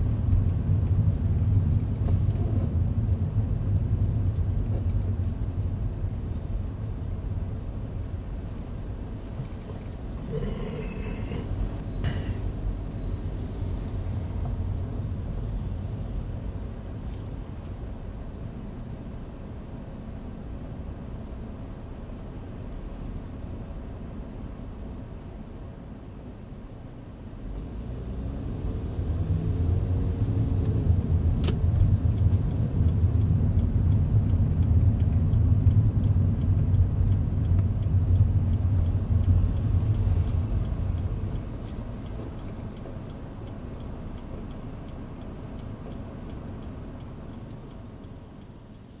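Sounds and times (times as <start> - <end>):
car engine and tyre noise: 0.0 - 49.0.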